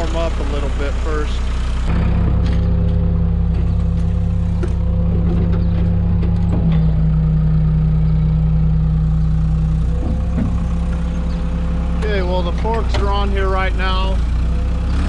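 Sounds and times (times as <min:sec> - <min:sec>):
telehandler engine idling: 0:00.0 - 0:14.8.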